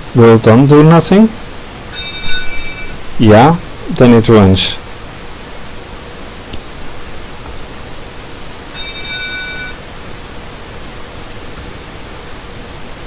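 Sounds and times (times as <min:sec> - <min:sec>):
high multi-tone whine: 0:00.0 - 0:13.0
steady hiss: 0:00.0 - 0:13.0.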